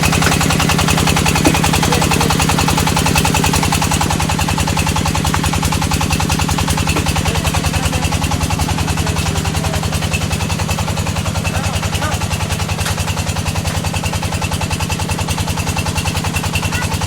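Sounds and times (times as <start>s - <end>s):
brick-making machine pounding: 0.0s - 17.0s.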